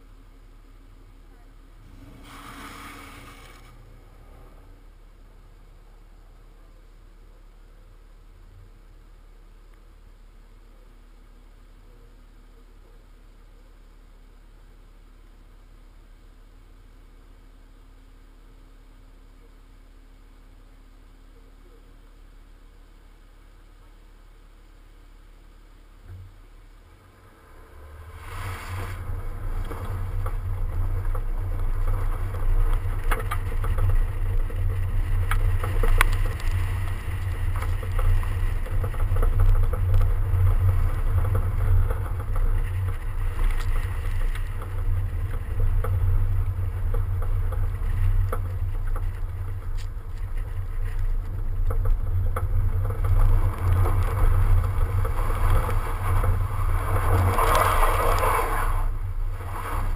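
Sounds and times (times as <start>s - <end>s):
road and tyre noise: 0.0s - 59.9s.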